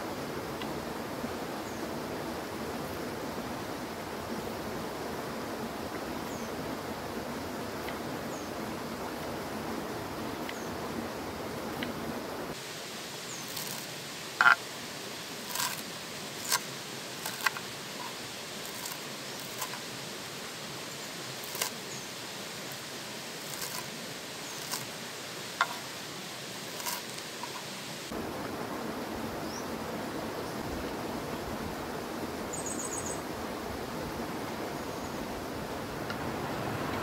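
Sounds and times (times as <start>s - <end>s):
outdoor background hiss: 0.0s - 37.0s.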